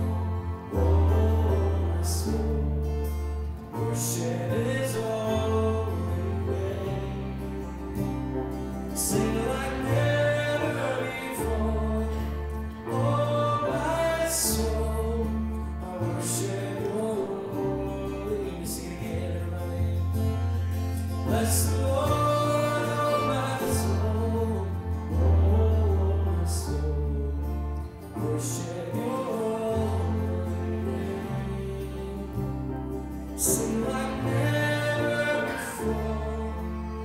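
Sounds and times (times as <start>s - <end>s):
man singing: 0.0s - 7.9s, 8.8s - 32.7s, 33.4s - 37.0s
deep bass line: 0.0s - 37.0s
strummed acoustic guitar: 0.0s - 37.0s.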